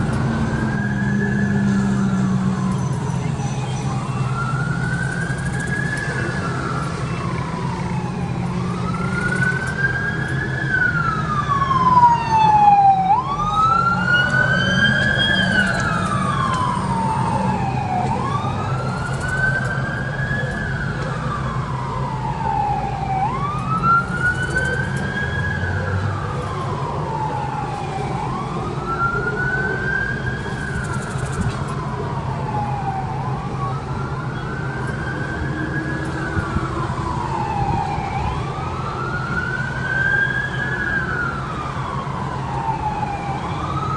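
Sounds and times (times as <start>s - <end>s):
emergency siren wailing: 0.0s - 43.9s.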